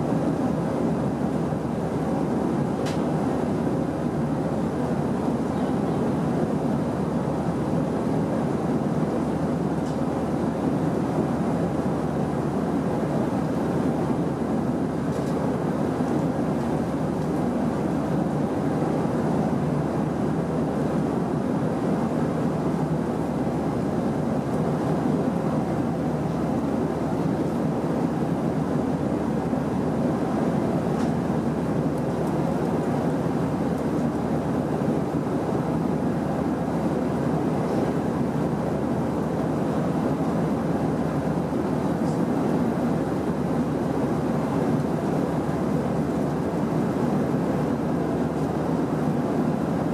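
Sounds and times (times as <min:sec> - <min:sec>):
airliner cabin engine roar: 0:00.0 - 0:49.9.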